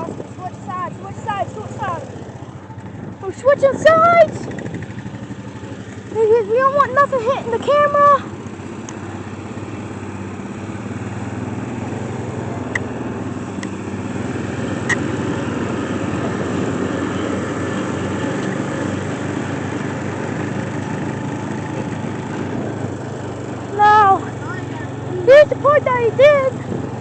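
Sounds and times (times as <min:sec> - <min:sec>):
four-wheeler engine running: 0:00.0 - 0:27.0
mowing tractor engine running: 0:00.0 - 0:27.0.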